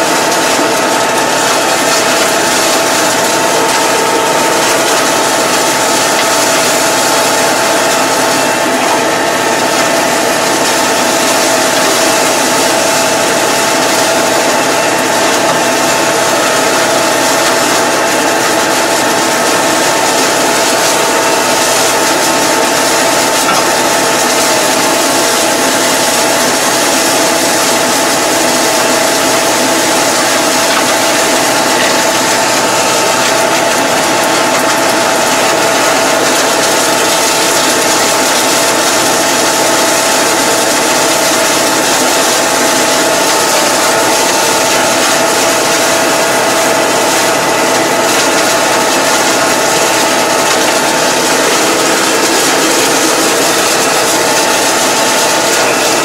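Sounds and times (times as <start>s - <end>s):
mower whine and rattling: 0.0s - 56.0s
tractor engine running: 0.0s - 56.0s.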